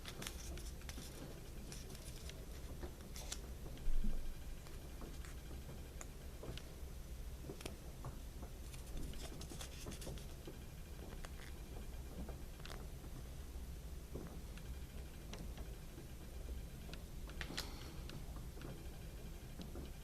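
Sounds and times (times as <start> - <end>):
low steady background hum: 0.0 - 20.0.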